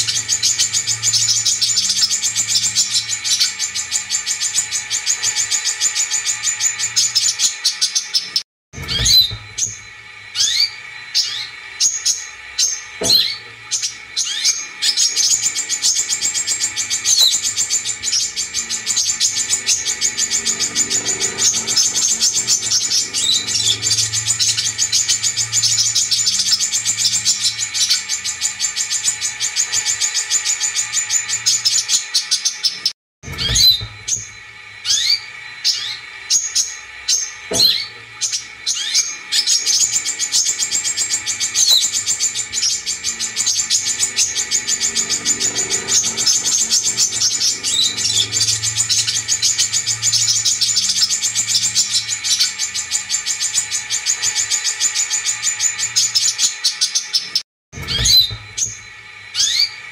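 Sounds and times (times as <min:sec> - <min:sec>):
bird trilling and chirping: 0:00.0 - 0:59.9.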